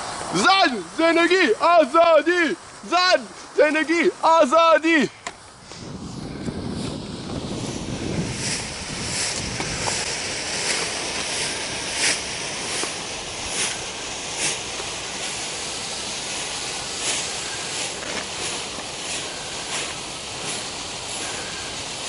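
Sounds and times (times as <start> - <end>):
steady hissing rush: 0.0 - 22.0.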